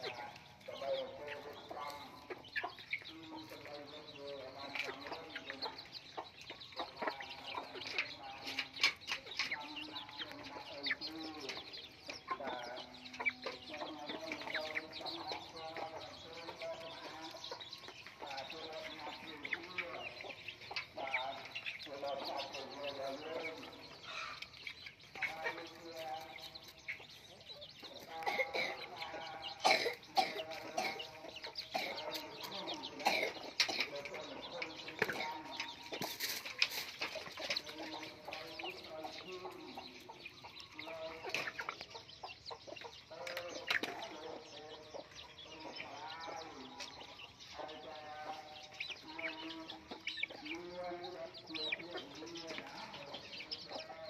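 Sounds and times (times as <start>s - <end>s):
chickens clucking: 0.0s - 54.0s
harsh chicken calls: 0.0s - 54.0s.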